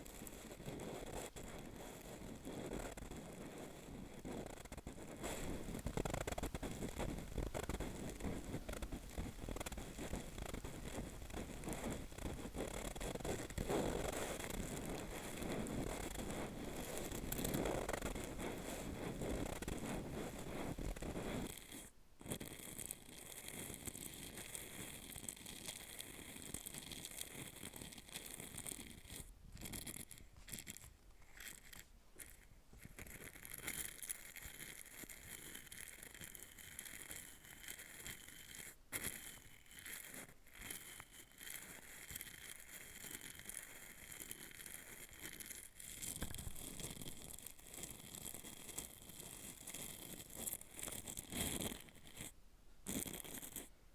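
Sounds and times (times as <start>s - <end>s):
scratching on microphone capsule: 0.0s - 53.7s.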